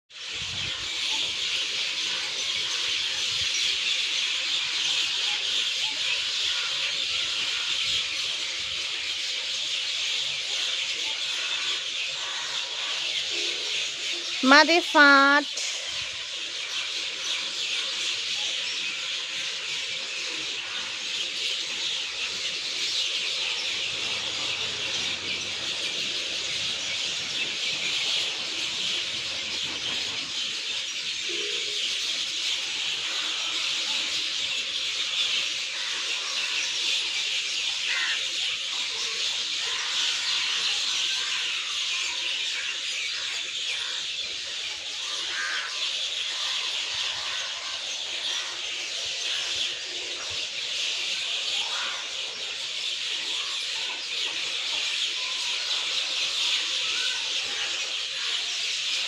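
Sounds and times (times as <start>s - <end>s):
birds chirping in chorus: 0.2s - 59.0s.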